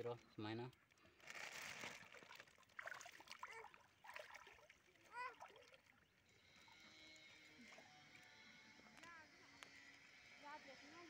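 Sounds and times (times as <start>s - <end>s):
water splashing and sloshing: 0.7s - 10.1s.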